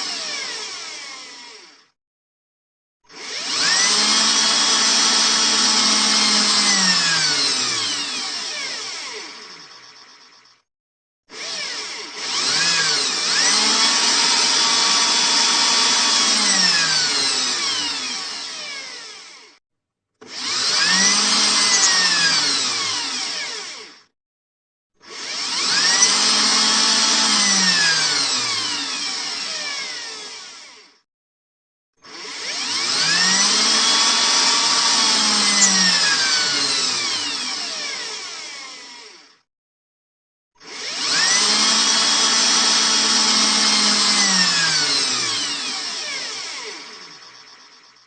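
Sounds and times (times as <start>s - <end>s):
electric drill running: 0.0s - 2.0s, 3.1s - 10.6s, 11.3s - 19.6s, 20.2s - 24.1s, 25.0s - 31.0s, 32.0s - 39.5s, 40.6s - 48.0s.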